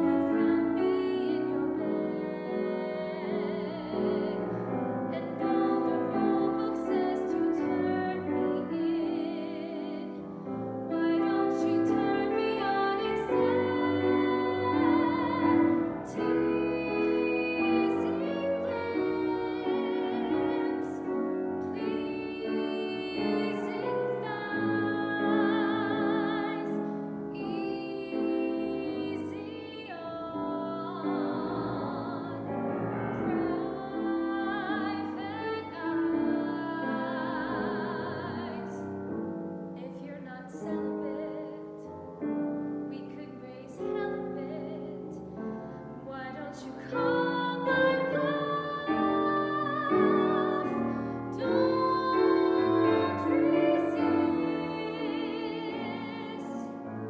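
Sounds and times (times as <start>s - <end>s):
woman singing operatically: 0.0s - 10.3s, 10.9s - 38.9s, 39.8s - 41.9s, 42.9s - 56.9s
piano accompaniment: 0.0s - 57.0s.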